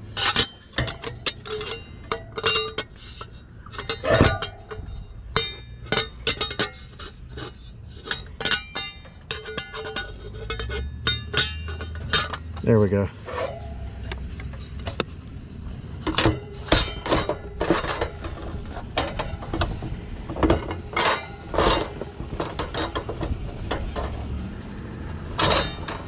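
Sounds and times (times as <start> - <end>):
metal parts clanking: 0.0 - 26.0.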